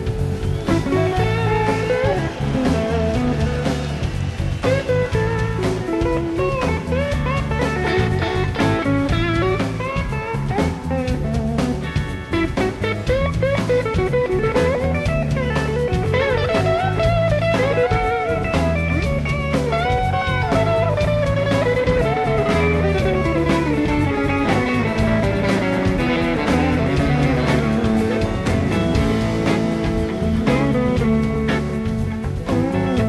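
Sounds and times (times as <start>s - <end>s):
bass guitar: 0.0s - 33.0s
drum kit: 0.0s - 33.0s
electric guitar: 0.0s - 33.0s
electric slide guitar lead: 0.0s - 33.0s.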